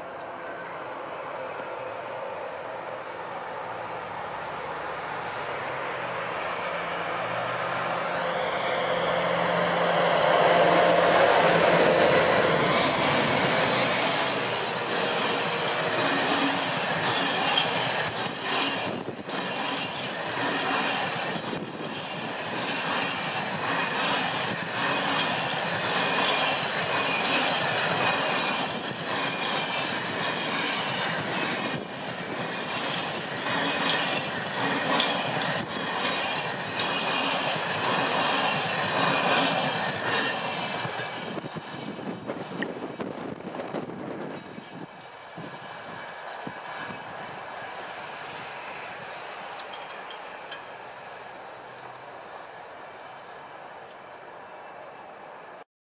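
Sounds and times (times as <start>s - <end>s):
diesel locomotive passing: 0.0s - 55.6s
wheels squealing on rail: 7.3s - 42.7s, 44.0s - 53.5s.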